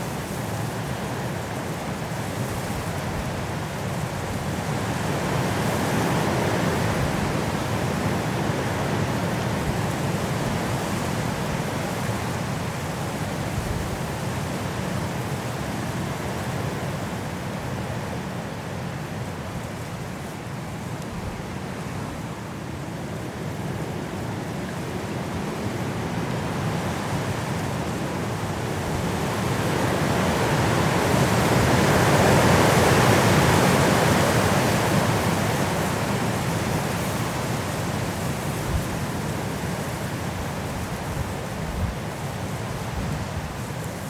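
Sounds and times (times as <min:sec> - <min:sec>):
wind blowing through trees: 0:00.0 - 0:44.0.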